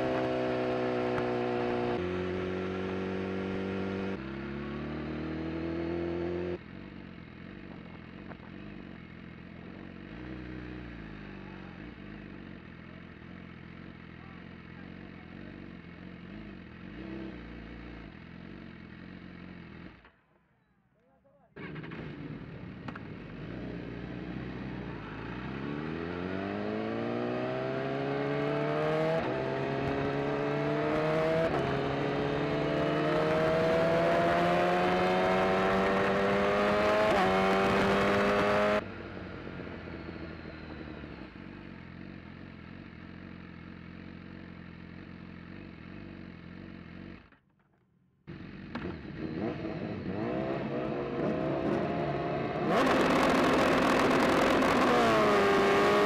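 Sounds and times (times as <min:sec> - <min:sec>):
race motorcycle engine accelerating: 0:00.0 - 0:20.1, 0:21.6 - 0:47.4, 0:48.3 - 0:56.0.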